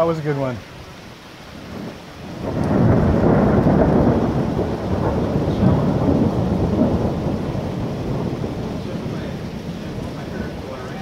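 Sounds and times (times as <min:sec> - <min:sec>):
rain hissing: 0:00.0 - 0:11.0
thunder rumbling: 0:01.5 - 0:11.0.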